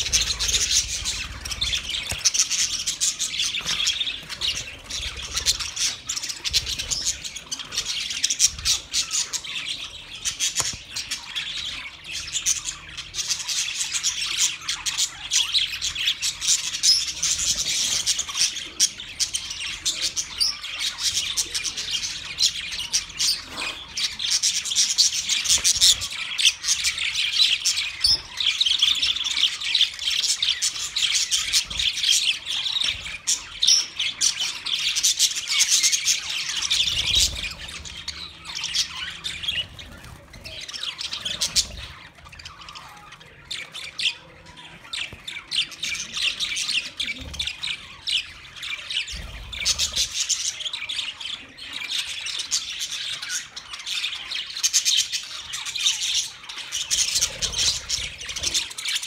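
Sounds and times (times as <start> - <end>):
budgerigars chattering and chirping: 0.0 - 59.0.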